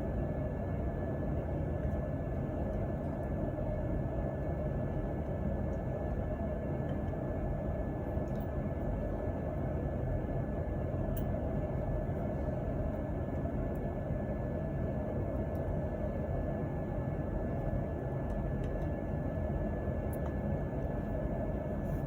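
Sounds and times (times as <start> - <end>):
machine noise with high whine: 0.0 - 22.0.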